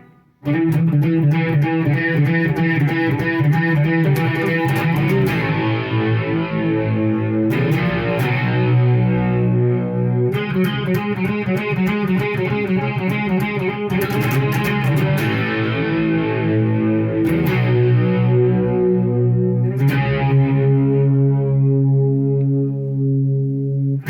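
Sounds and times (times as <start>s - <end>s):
distorted electric guitar riff: 0.0s - 24.0s.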